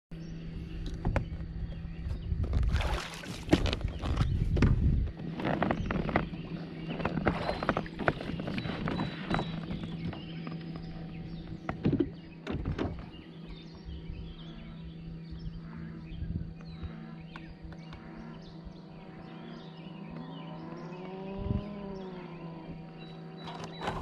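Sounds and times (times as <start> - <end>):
steady low hum: 0.1 - 24.0.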